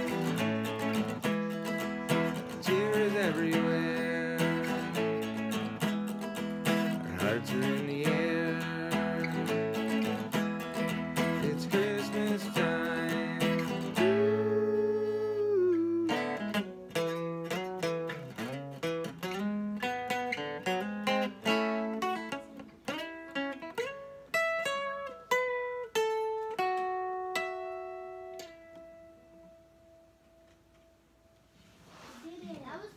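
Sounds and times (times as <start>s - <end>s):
electric guitar picked notes and chords: 0.0s - 30.9s.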